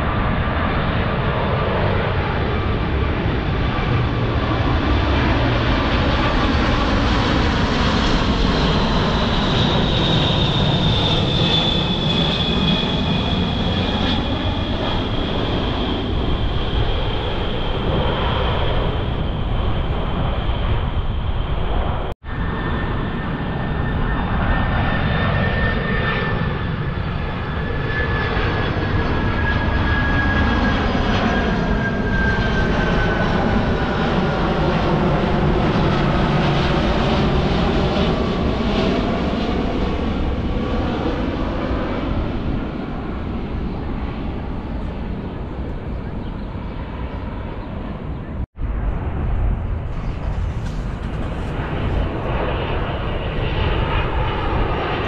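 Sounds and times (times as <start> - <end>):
jet airliner engine roar and whine: 0.0 - 55.0.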